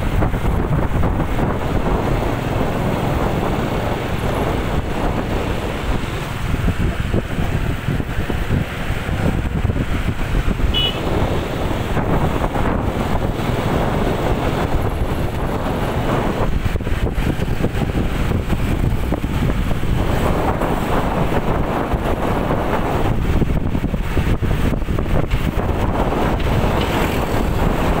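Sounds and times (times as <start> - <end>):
scooter engines running: 0.0 - 28.0
tyres on road: 0.0 - 28.0
wind buffeting microphone: 0.0 - 28.0.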